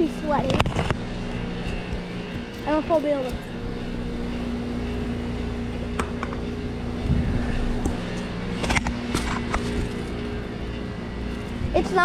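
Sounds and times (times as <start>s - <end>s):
air conditioner compressor hum: 0.0s - 12.0s
fan noise: 0.0s - 12.0s.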